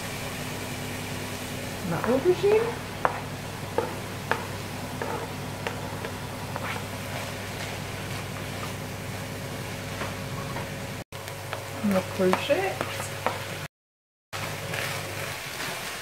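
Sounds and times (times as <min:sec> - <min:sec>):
faint sizzle: 0:00.0 - 0:13.7, 0:14.4 - 0:16.0.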